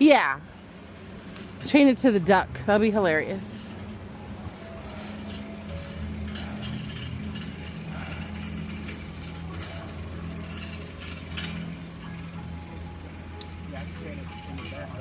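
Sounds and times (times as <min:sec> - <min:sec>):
bicycle freewheel ratchet ticking: 0:00.0 - 0:15.0
steady low hum: 0:00.0 - 0:15.0.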